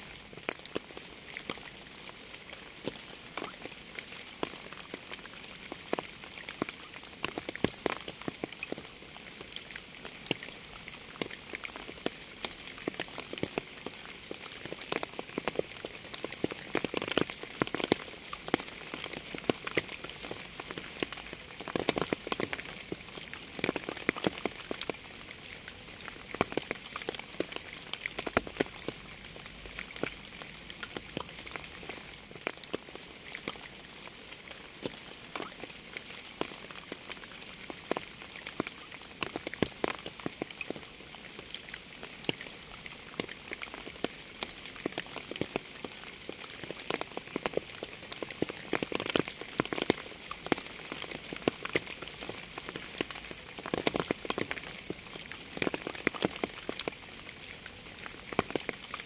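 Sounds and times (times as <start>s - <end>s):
raindrops ticking close by: 0.0s - 59.0s
steady rain hiss: 0.0s - 59.0s.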